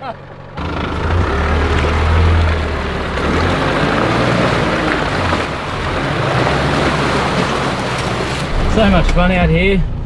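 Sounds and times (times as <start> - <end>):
road and wind noise: 0.0 - 10.0
vehicle engine droning: 0.0 - 10.0.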